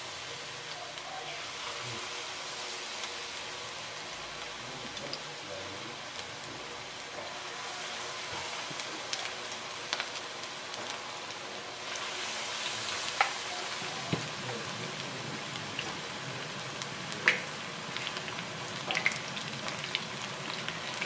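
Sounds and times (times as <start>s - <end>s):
fritters deep-frying in oil: 0.0s - 21.0s.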